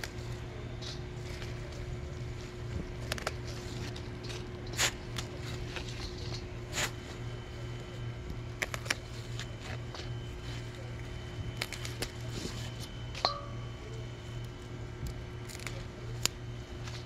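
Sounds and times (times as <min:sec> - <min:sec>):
leaves snapping and rustling: 0:00.0 - 0:13.3, 0:13.9 - 0:17.0
steady low hum: 0:00.0 - 0:17.0.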